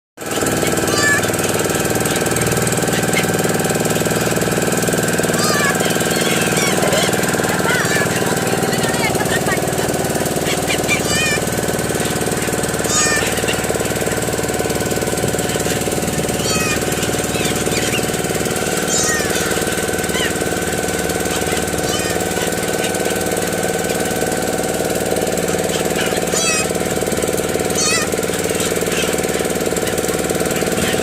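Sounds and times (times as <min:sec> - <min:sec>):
engine running with knocking beat: 0:00.2 - 0:31.0
high wavering bird calls: 0:00.3 - 0:31.0.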